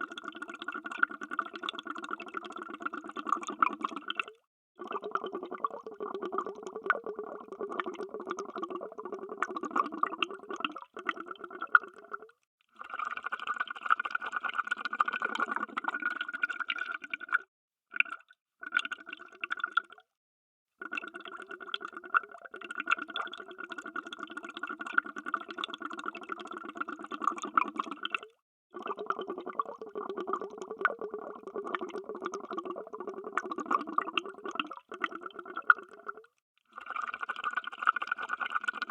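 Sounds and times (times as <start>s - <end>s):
underwater bubbling: 0.1s - 12.4s, 14.6s - 17.4s, 20.9s - 37.8s.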